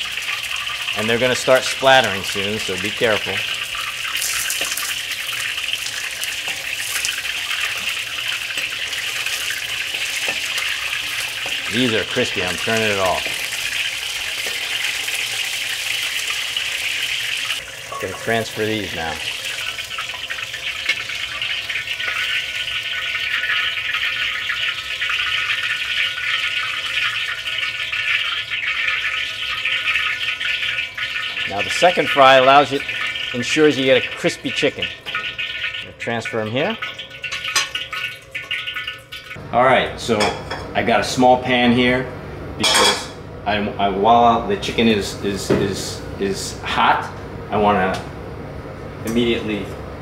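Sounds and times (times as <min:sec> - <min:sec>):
chicken deep-frying in oil: 0:00.0 - 0:41.5.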